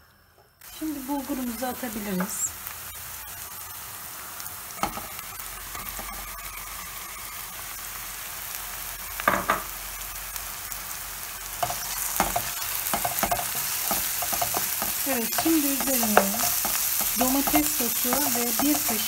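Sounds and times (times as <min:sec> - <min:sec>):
oil sizzling in frying pan: 0:00.6 - 0:19.0.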